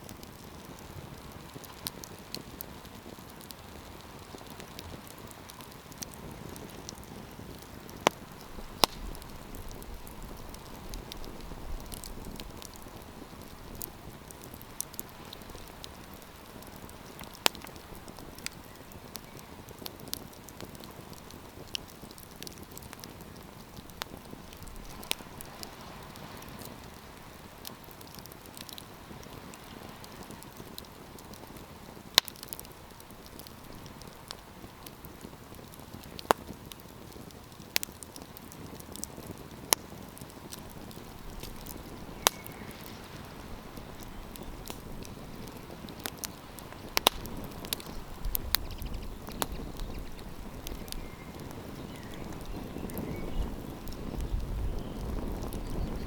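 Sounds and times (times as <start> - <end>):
campfire pops and snaps: 0.0 - 56.0
hiss of burning wood: 0.0 - 56.0.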